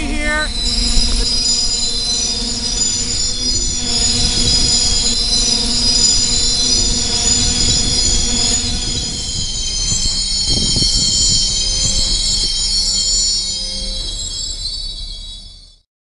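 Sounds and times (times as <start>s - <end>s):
freight train rumbling: 0.0s - 12.9s
train wheels squealing on rails: 0.0s - 15.8s.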